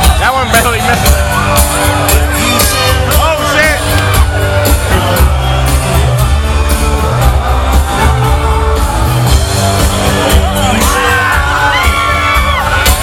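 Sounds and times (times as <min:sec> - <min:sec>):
heavy bass line: 0:00.0 - 0:13.0
live band music: 0:00.0 - 0:13.0.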